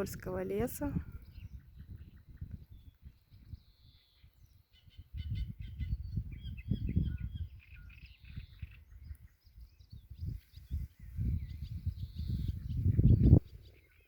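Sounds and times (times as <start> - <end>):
low rumble on microphone: 0.0 - 13.9
songbirds chirping and trilling: 0.0 - 14.0.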